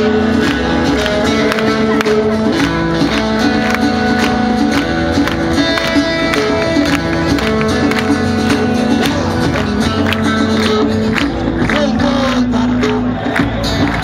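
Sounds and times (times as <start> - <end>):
live band music: 0.0 - 14.0
strummed guitar: 0.0 - 14.0.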